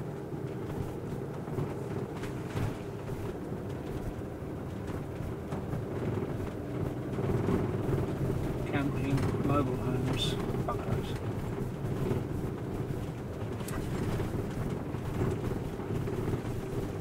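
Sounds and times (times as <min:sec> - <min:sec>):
vehicle engine and road noise: 0:00.0 - 0:17.0
faint rattles: 0:01.4 - 0:17.0.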